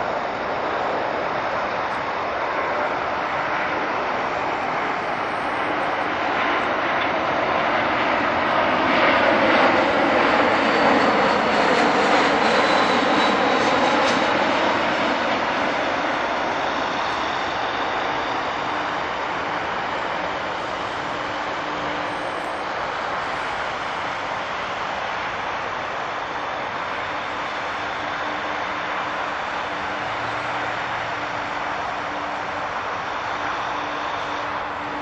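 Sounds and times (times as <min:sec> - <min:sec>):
jet engine whine: 0:00.0 - 0:35.0
jet engines rushing past: 0:00.0 - 0:35.0.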